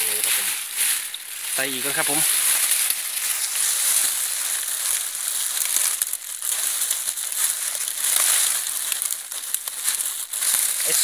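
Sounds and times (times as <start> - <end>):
dry leaves crunching: 0.0 - 11.0.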